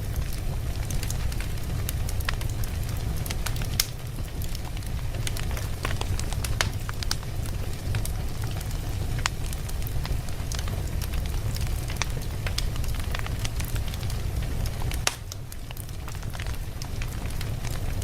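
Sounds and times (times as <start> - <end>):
burning wood crackling and popping: 0.0 - 18.0
flames rumbling: 0.0 - 18.0.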